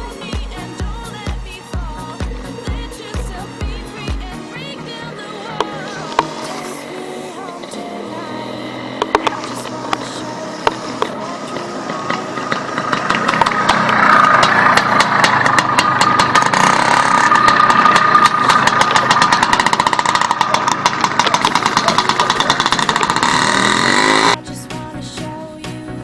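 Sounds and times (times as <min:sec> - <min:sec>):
motorcycle two-stroke engine revving: 0:00.0 - 0:24.4.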